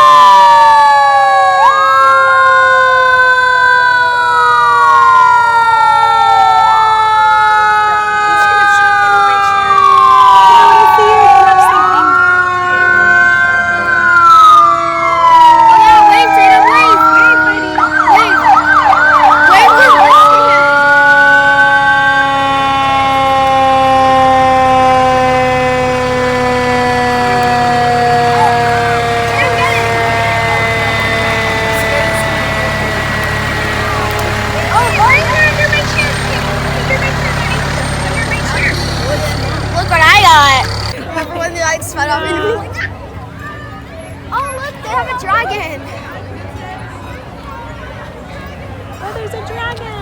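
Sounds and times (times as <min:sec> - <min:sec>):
siren wailing: 0:00.0 - 0:41.0.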